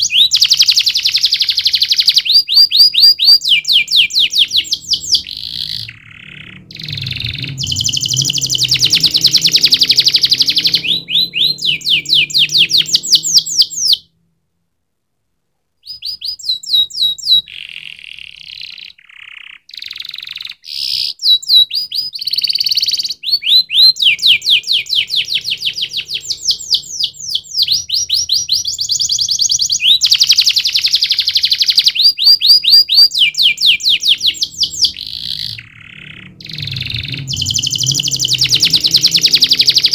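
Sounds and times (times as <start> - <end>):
canary singing trills: 0.0 - 14.1, 15.8 - 39.9.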